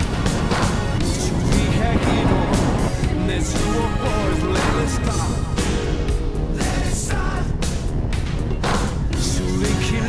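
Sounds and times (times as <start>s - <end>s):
music with drums and melody: 0.0s - 10.0s.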